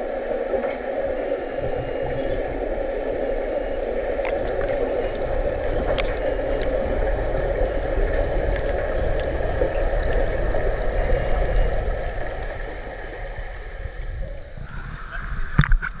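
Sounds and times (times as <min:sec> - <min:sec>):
underwater rush of water: 0:00.0 - 0:16.0.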